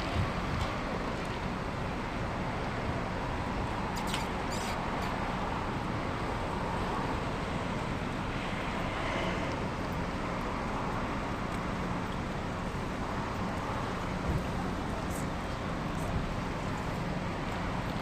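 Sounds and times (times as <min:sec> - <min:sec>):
street traffic noise: 0:00.0 - 0:18.0.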